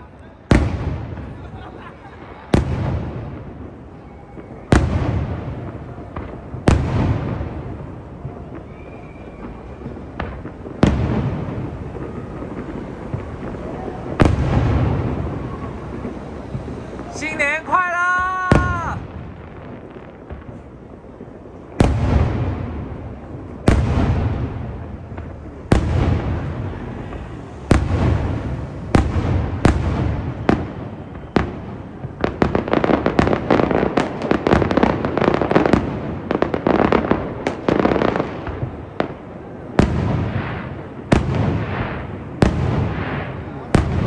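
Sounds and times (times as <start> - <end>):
fireworks bangs echoing: 0.0 - 44.0
rapid crackling firework bursts: 0.0 - 44.0.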